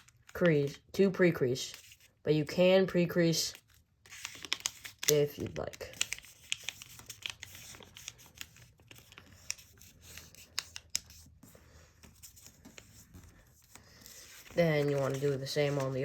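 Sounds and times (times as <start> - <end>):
paper crackling and rustling: 0.0 - 0.8, 3.5 - 16.0.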